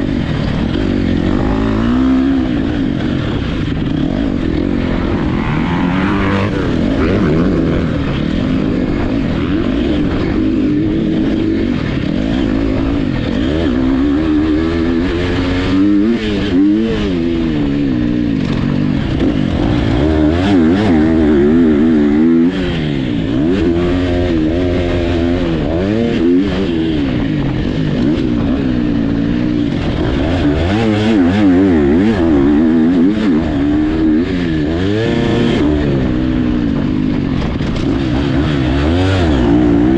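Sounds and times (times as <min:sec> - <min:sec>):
dirt bikes racing and revving: 0:00.0 - 0:39.9.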